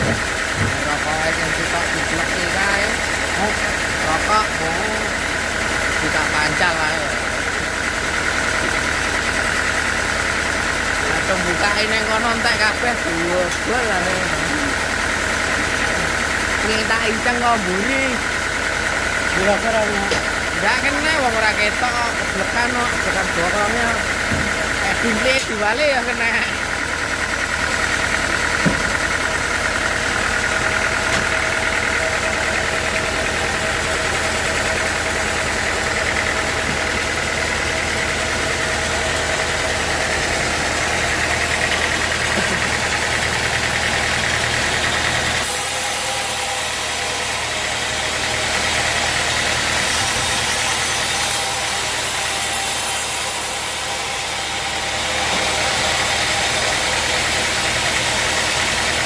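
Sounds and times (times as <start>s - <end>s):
higher steady machine noise: 0.0s - 59.0s
sawmill machinery drone: 0.0s - 59.0s.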